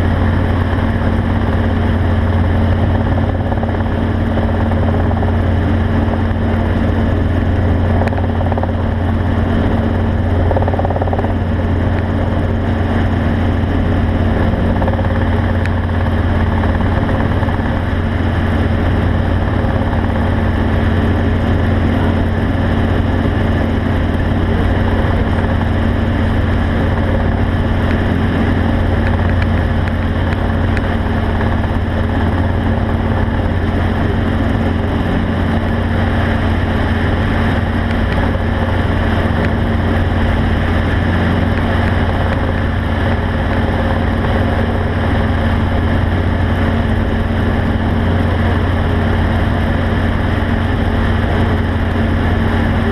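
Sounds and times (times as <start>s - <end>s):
low engine drone: 0.0s - 52.9s.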